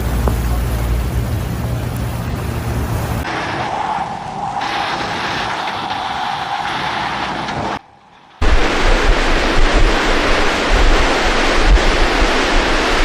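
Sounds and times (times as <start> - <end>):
rushing water: 0.0 - 13.0
steady hiss: 0.0 - 13.0
wind buffeting microphone: 0.0 - 13.0.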